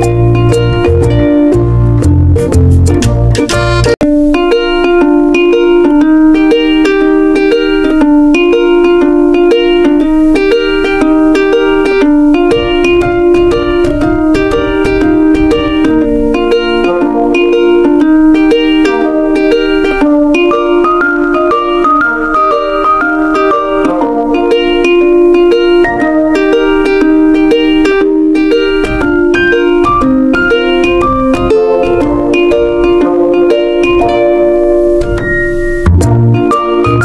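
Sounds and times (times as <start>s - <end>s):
plucked strings music: 0.0s - 37.0s.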